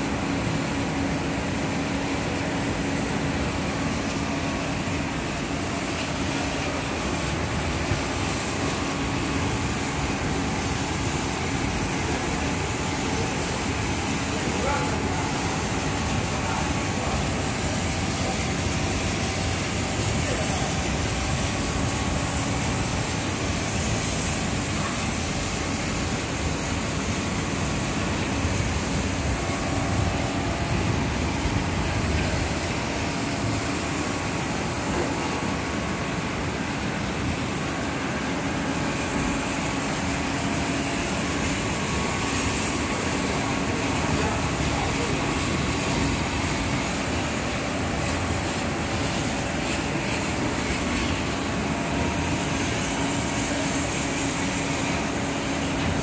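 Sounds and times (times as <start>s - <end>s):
laser cutting machine noise: 0.0s - 56.0s.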